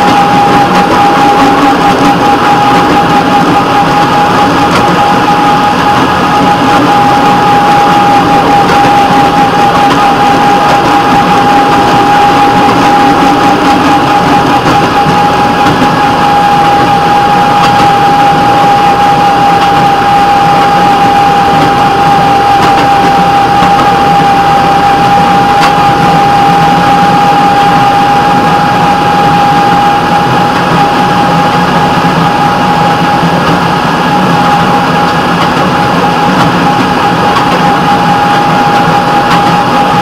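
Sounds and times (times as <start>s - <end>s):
constant high whine: 0.0s - 40.0s
train rolling on track: 0.0s - 40.0s.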